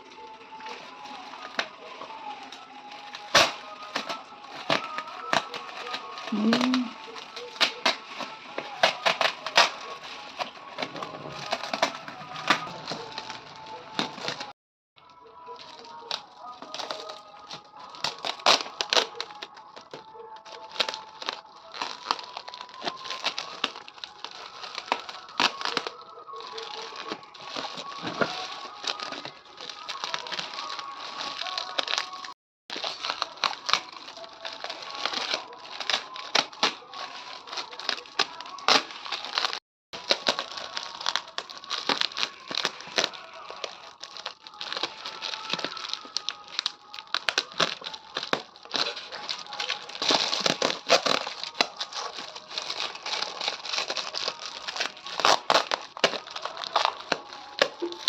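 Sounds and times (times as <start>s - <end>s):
faint background music: 0.0s - 58.0s
plastic packaging crinkling: 0.0s - 58.0s.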